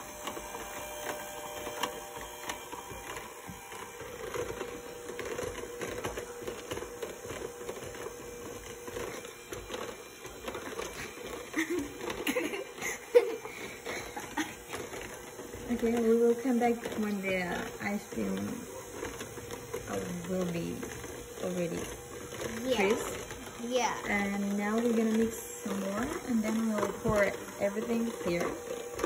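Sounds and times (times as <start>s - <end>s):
electric hand mixer running: 0.0s - 29.0s.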